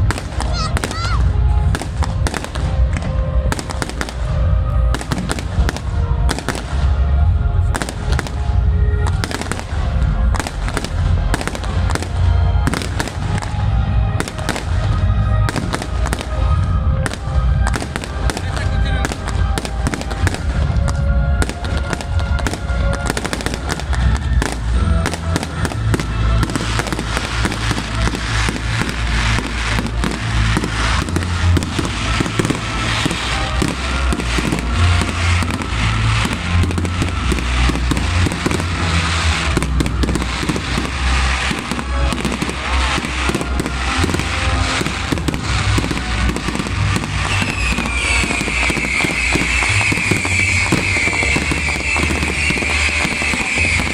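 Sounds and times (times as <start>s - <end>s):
fireworks bangs and crackles: 0.0s - 53.9s
music playing: 0.0s - 53.9s.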